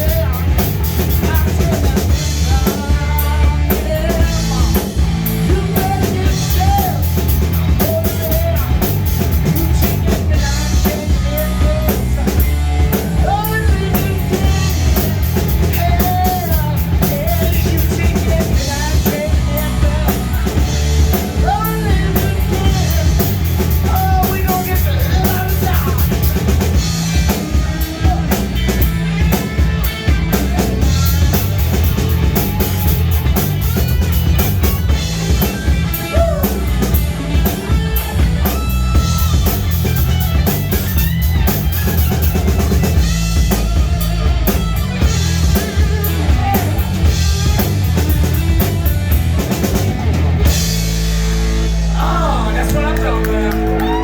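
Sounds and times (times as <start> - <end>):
bass guitar: 0.0 - 54.0
drum kit: 0.0 - 54.0.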